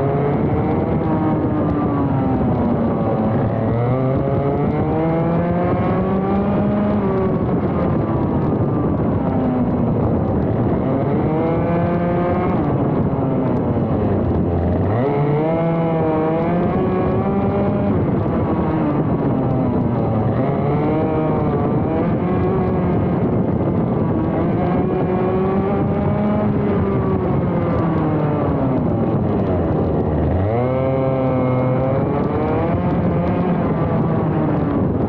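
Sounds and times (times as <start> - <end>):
kart engine running hard: 0.0 - 35.0.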